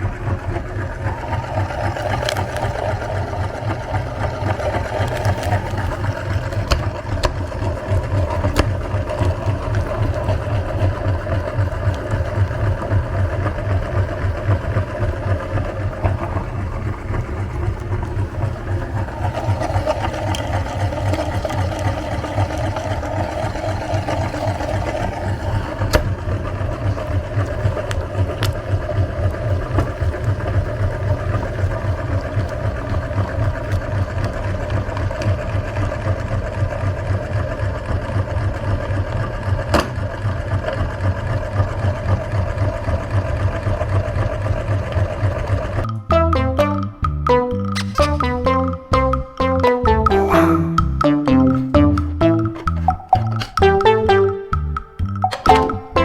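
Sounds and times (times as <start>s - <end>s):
meat grinder motor humming: 0.1s - 45.8s.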